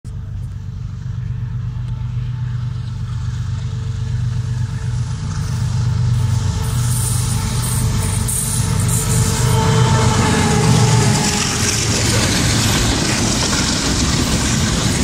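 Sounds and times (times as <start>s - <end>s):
diesel locomotive engine drone: 0.1s - 15.0s.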